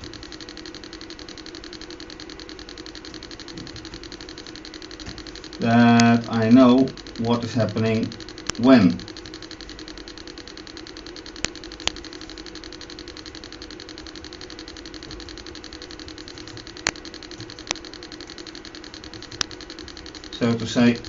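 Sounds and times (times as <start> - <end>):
pulsing electrical hum: 0.0 - 21.0
sharp clicks: 0.0 - 21.0.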